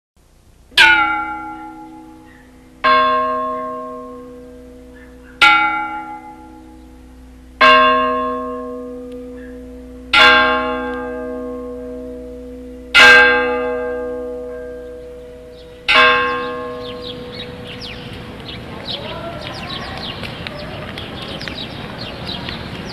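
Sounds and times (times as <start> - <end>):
large church bell tolling: 0.8 - 21.0.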